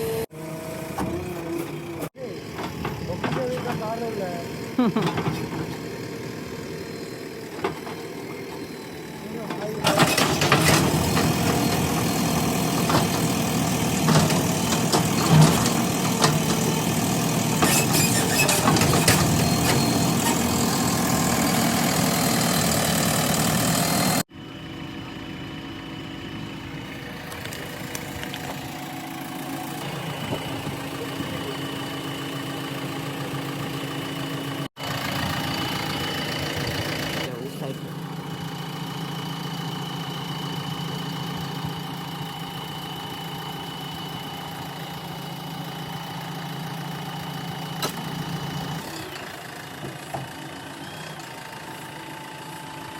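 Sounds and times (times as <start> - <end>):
backhoe diesel engine: 0.0 - 52.9.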